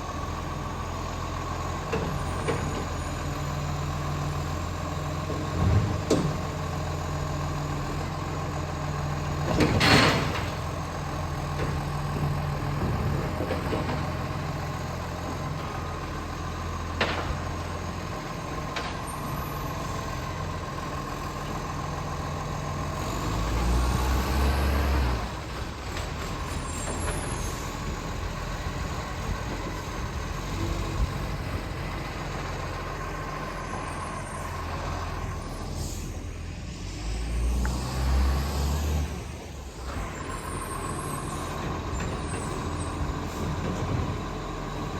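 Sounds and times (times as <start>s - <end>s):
diesel truck engine revving: 0.0s - 44.9s.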